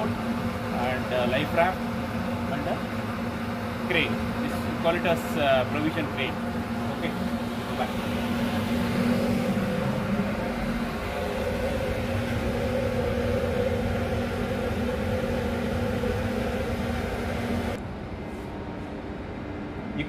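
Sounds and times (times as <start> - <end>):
ship machinery hum: 0.0 - 20.0.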